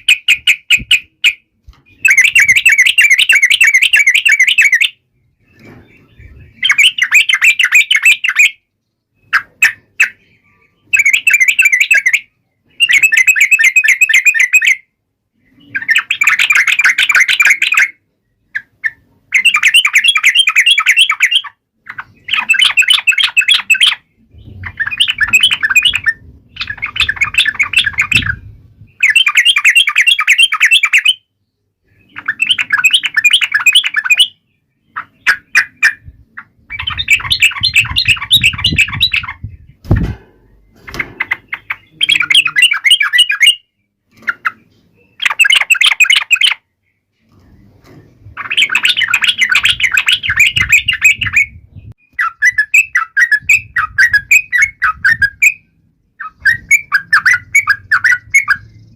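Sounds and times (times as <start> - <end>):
bird singing chattering phrases: 0.0 - 58.9.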